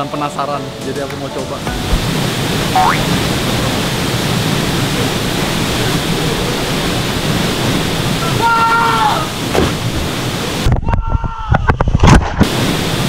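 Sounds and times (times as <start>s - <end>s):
waterfall rushing over rocks: 0.0s - 10.8s, 12.4s - 13.0s.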